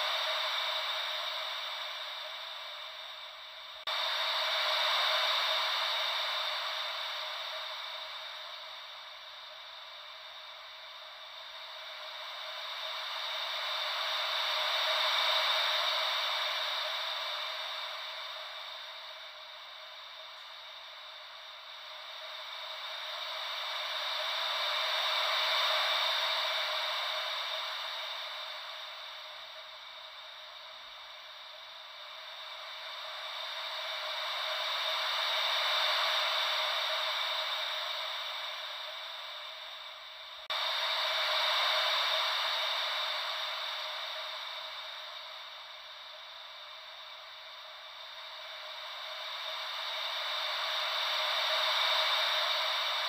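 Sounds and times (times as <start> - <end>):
ocean wave white noise: 0.0 - 53.0.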